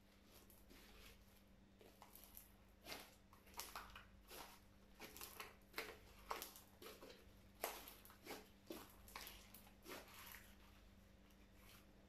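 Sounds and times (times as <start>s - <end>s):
slime squelching: 0.0s - 12.0s.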